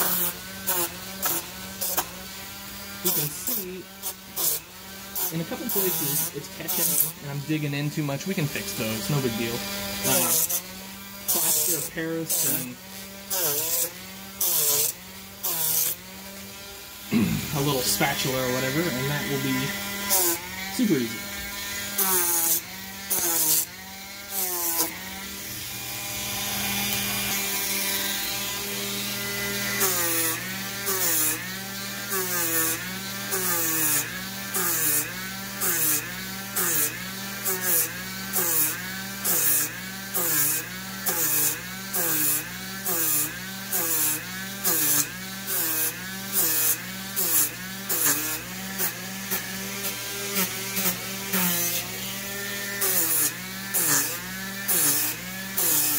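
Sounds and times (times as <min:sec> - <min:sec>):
gritty sanding rasp: 0:00.0 - 0:25.8, 0:26.4 - 0:55.9
rotary tool motor humming: 0:00.0 - 0:55.9.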